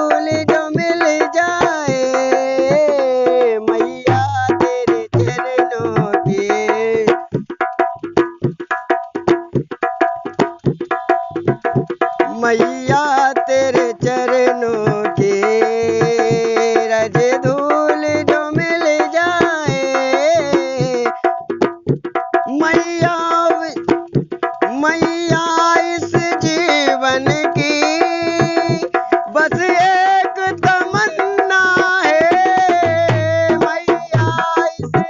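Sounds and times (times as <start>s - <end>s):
dholak drumming: 0.0s - 35.0s.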